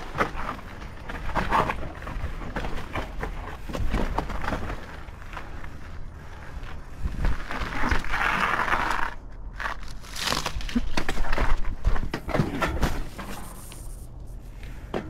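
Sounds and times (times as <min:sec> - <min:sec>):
bike rattling: 0:00.0 - 0:14.1.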